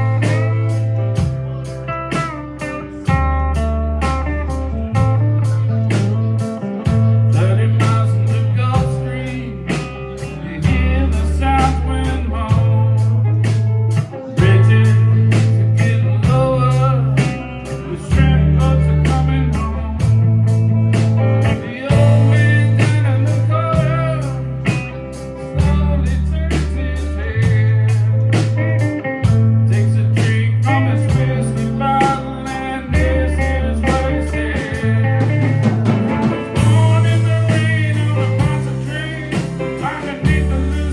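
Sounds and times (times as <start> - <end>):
blues-rock band playing: 0.0 - 40.9
guitar lead with bending notes: 0.0 - 40.9.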